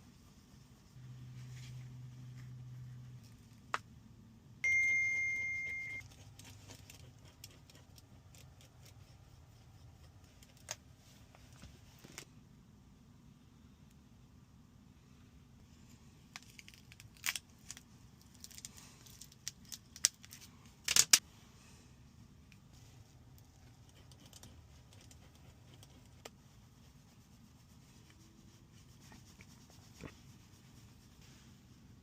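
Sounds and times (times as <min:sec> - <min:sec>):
faint low hum: 0:00.0 - 0:32.0.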